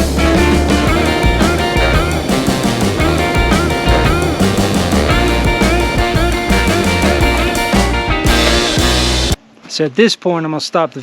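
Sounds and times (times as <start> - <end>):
rock music: 0.0 - 9.4.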